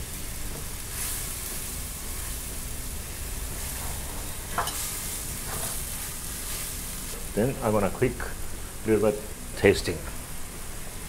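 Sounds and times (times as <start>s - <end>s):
sauce sizzling in a wok: 0.0s - 11.0s.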